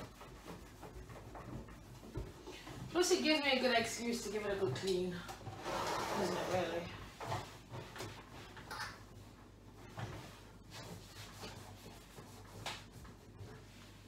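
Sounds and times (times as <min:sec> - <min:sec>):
cloth rubbing on microwave: 0:00.0 - 0:04.9, 0:05.5 - 0:14.0.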